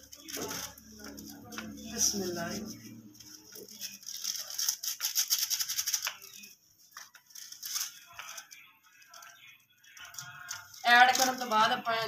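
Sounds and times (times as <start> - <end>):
plastic packet rattling and crinkling: 0.0 - 12.0.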